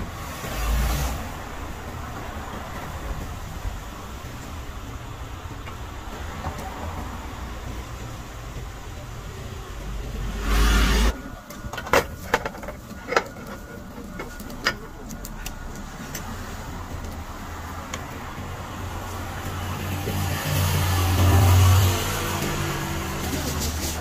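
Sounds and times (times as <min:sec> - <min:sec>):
vehicle rushing by: 0:00.0 - 0:11.2, 0:15.6 - 0:24.0
low engine rumble: 0:00.0 - 0:24.0
street traffic noise: 0:00.0 - 0:24.0.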